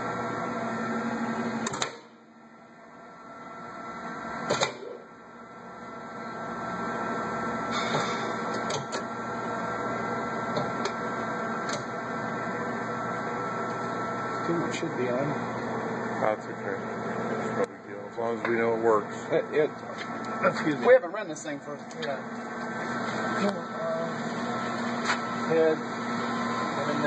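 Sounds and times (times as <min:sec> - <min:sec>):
grinder machine hum: 0:00.0 - 0:01.8, 0:02.8 - 0:27.0.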